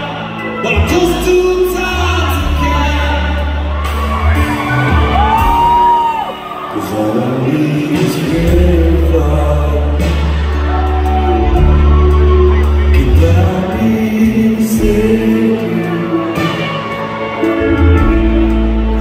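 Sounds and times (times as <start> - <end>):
man singing: 0.0 - 3.9, 6.4 - 18.2
live band playing: 0.0 - 19.0.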